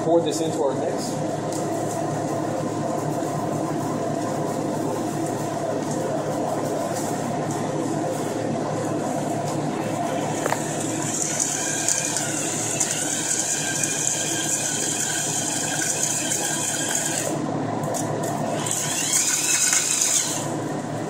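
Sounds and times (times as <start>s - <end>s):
stand mixer gear whine: 0.0s - 21.0s.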